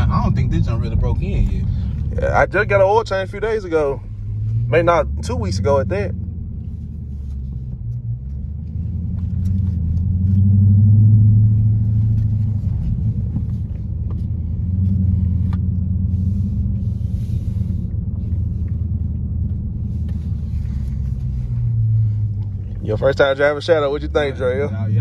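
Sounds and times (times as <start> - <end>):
car engine rumble: 0.0 - 25.0.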